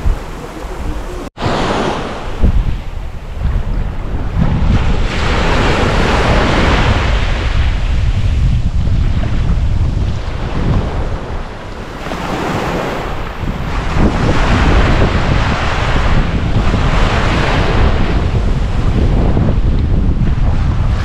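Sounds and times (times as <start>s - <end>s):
ocean surf washing onto beach: 0.0s - 21.0s
wind buffeting microphone: 0.0s - 21.0s.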